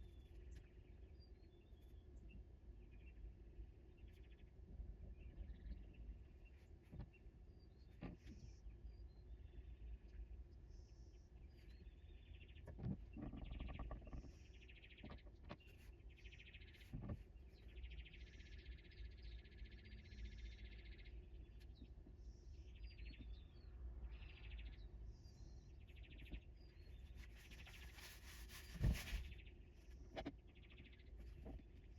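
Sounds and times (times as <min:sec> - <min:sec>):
faint birds chirping: 0:00.0 - 0:31.9.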